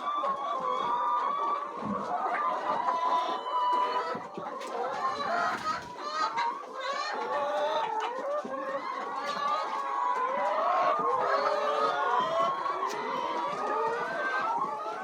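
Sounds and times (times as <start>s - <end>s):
flock of chickens calling: 0.0s - 15.0s.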